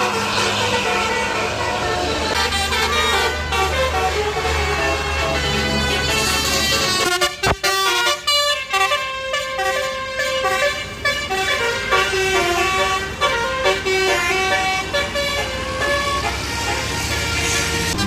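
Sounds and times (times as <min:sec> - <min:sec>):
bus musical air horn melody: 0:00.0 - 0:18.0.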